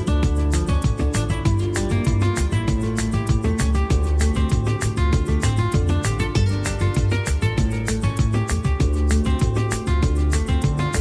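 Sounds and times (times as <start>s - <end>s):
background music with plucked strings: 0.0s - 11.0s.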